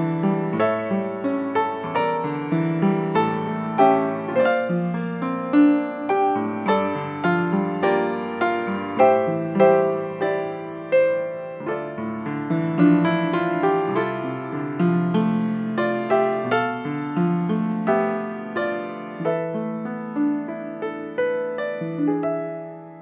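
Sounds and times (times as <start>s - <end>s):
slow gentle piano piece: 0.0s - 23.0s.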